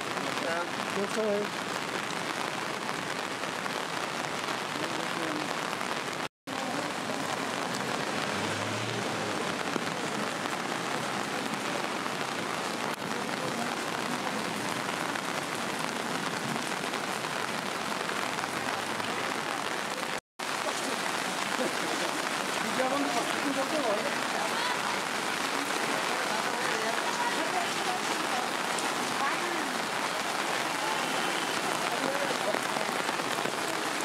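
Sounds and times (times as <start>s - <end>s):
heavy rain on wet ground: 0.0s - 34.0s.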